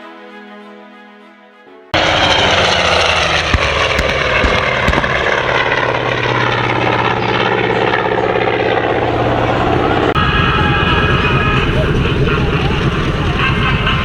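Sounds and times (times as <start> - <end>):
propeller aircraft engine running: 2.0 - 14.0.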